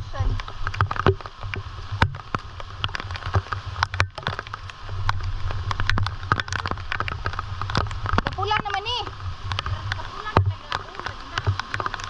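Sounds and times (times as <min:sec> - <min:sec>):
low rain rumble: 0:00.0 - 0:12.0
rain drops hitting close: 0:00.0 - 0:12.0.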